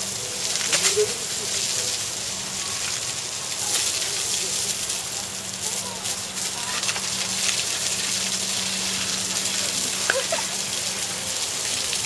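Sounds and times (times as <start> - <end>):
hose water spraying and splashing: 0.0 - 12.0
low steady hum: 0.0 - 12.0.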